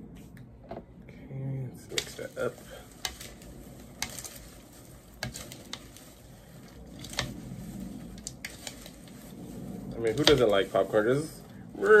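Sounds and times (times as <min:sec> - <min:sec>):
popcorn rustling in a bowl: 0:01.7 - 0:12.0.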